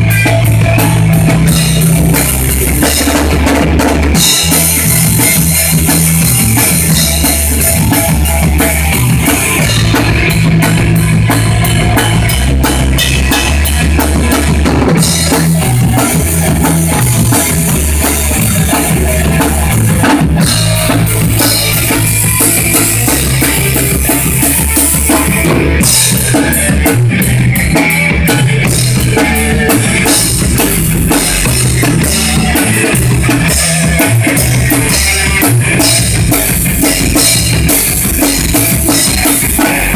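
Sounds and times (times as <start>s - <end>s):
loud rock music: 0.0s - 39.9s.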